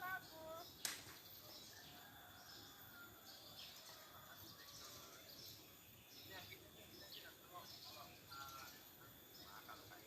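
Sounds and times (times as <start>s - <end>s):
bird chirps: 0.0s - 10.0s
insect calls: 0.0s - 10.0s
low steady hiss: 0.0s - 10.0s.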